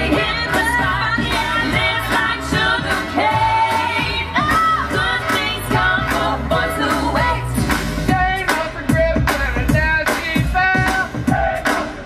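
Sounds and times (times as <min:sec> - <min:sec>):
dance song with sung vocals: 0:00.0 - 0:12.0.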